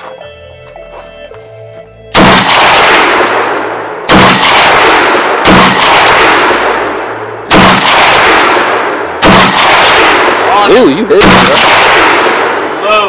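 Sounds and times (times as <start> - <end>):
gunshots echoing: 2.1 - 13.0.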